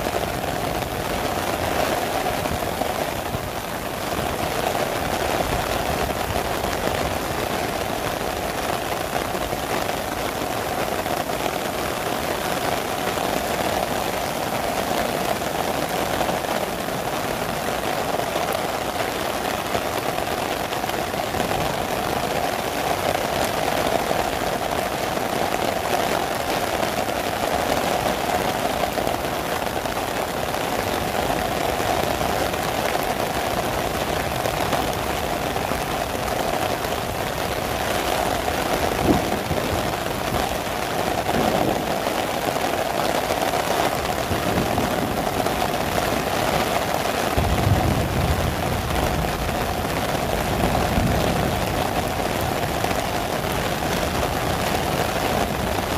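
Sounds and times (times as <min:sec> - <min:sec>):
heavy rain on an umbrella: 0:00.0 - 0:55.9.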